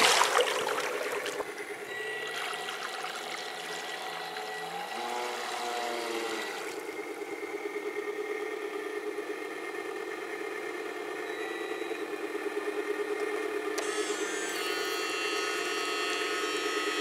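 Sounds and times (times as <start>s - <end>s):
pulsing model boat engine drone: 0.0s - 17.0s.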